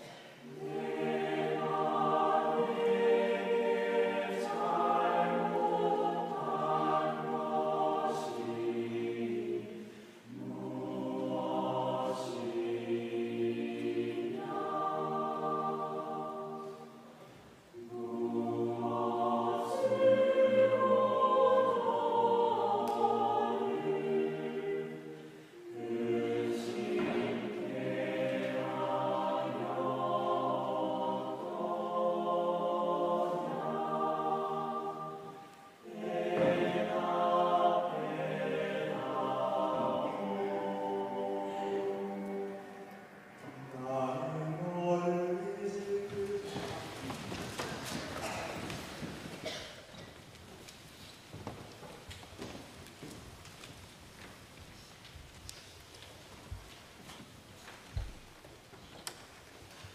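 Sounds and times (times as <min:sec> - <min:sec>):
choir singing a hymn: 0:00.0 - 0:49.8.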